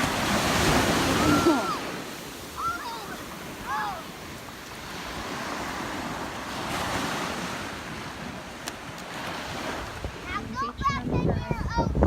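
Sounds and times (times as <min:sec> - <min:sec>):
ocean surf washing onto beach: 0:00.0 - 0:12.0
wind rumbling on microphone: 0:00.0 - 0:12.0.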